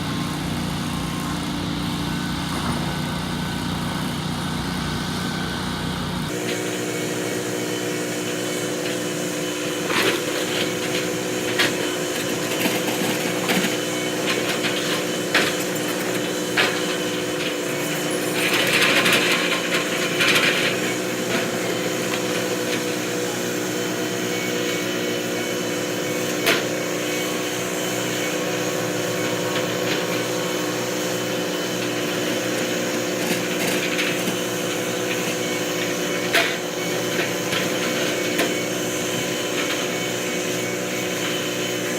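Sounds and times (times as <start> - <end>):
construction machinery engine running: 0.0 - 41.9.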